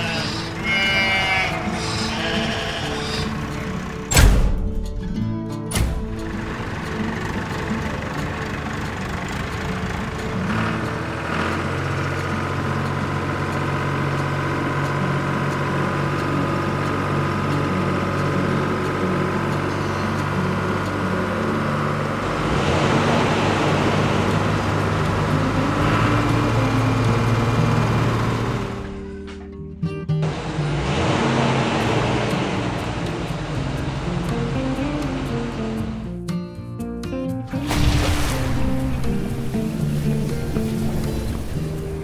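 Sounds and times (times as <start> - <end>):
tractor engine humming: 0.0 - 42.0.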